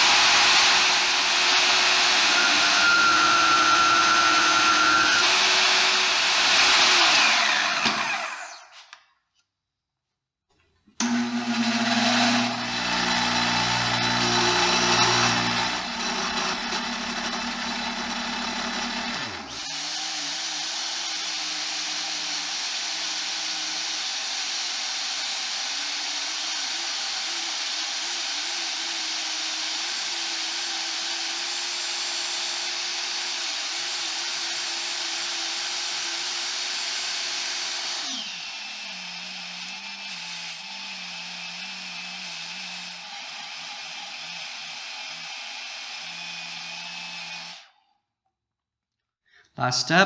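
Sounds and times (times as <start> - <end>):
power tool working steel: 0.0 - 8.8, 11.0 - 47.8.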